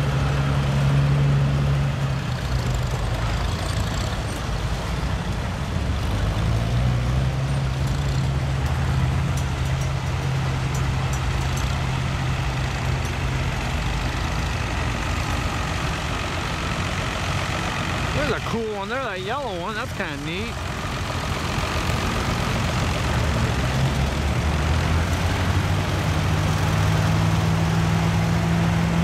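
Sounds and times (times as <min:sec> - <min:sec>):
tractor engine driving past: 0:00.0 - 0:29.0.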